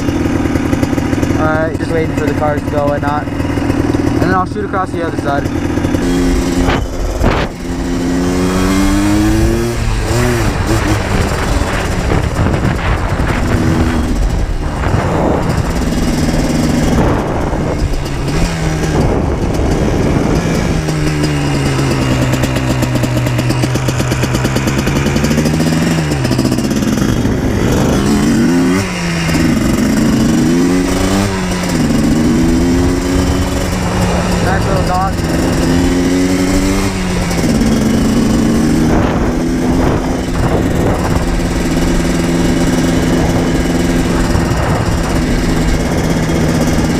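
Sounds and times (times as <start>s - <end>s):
two-stroke quad engine revving: 0.0s - 46.9s.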